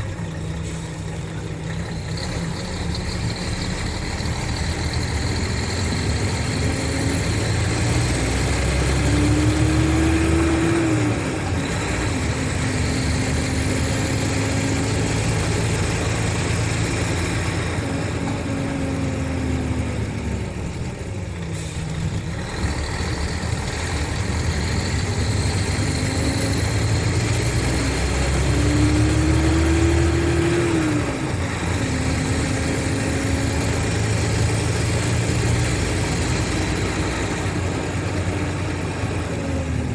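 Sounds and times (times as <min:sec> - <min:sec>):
diesel coach engine running: 0:00.0 - 0:39.9.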